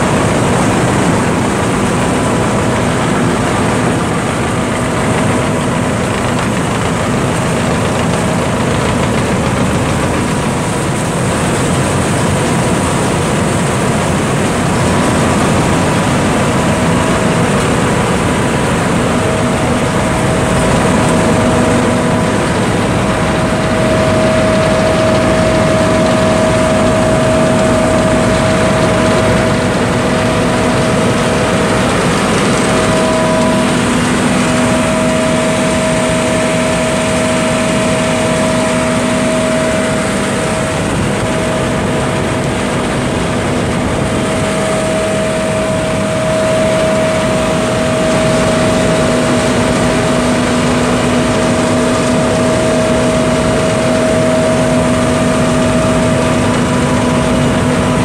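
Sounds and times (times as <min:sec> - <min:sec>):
combine engine and machinery: 0:00.0 - 0:58.0
steady machine whine: 0:00.0 - 0:58.0.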